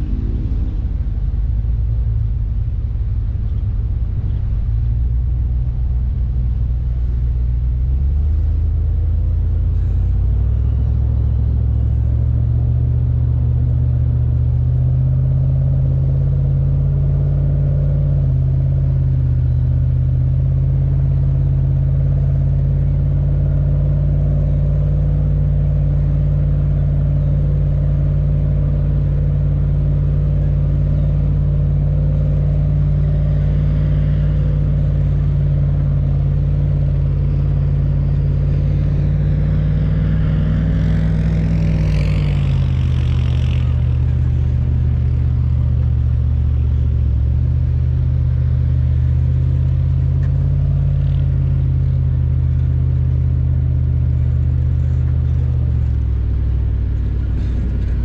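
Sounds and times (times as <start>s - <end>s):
vehicle engine under load: 0.0s - 58.0s.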